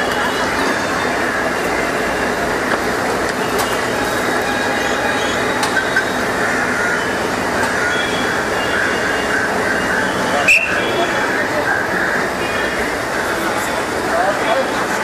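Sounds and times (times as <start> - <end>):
faint high whining tones: 0.0 - 15.0
heavy machinery noise: 0.0 - 15.0.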